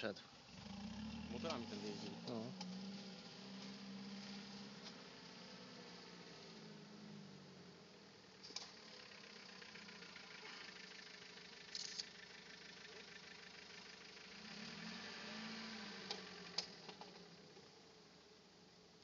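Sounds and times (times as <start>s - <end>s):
distant diesel engine revving: 0.0s - 7.9s, 8.5s - 17.3s.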